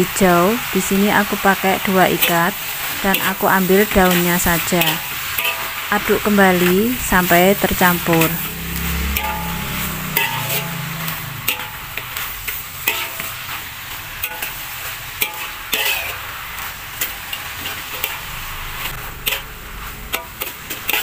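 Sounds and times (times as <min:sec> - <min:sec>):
vegetables sizzling: 0:00.0 - 0:21.0
metal spatula scraping a wok: 0:01.4 - 0:21.0.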